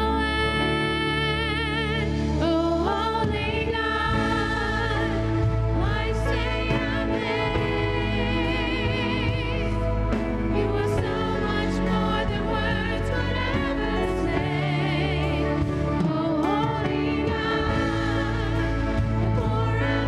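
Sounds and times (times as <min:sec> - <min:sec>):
sustained low chords: 0:00.0 - 0:20.0
drums: 0:01.8 - 0:20.0
singers singing slow song: 0:02.1 - 0:20.0.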